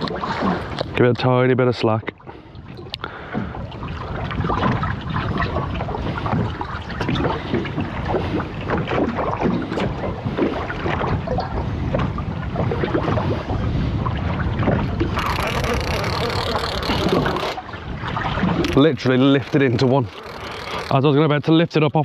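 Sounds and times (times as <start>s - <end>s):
water lapping against boat hull: 0.0s - 22.0s
wind buffeting microphone: 2.1s - 22.0s.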